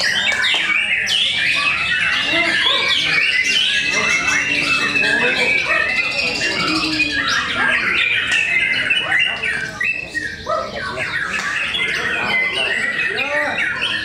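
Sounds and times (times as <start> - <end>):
songbirds singing in chorus: 0.0 - 14.0.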